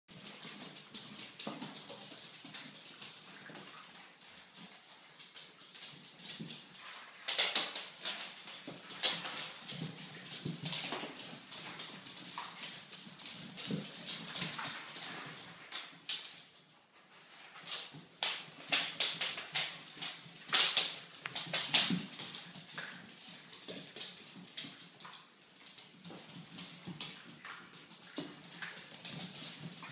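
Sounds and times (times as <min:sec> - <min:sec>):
dogs play-fighting: 0:00.1 - 0:29.9.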